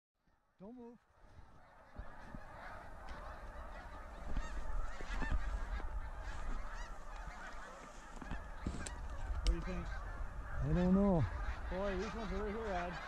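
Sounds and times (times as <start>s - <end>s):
geese honking: 0.3s - 13.0s.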